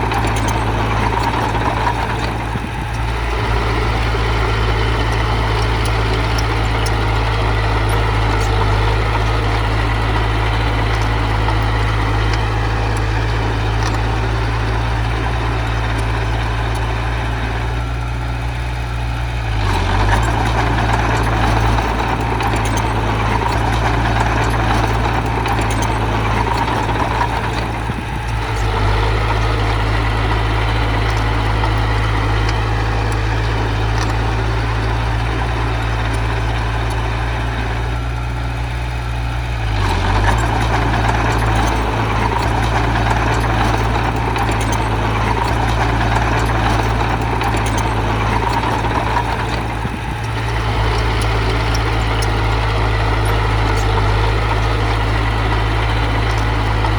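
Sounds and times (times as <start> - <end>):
heavy machinery diesel engine droning: 0.0 - 56.9.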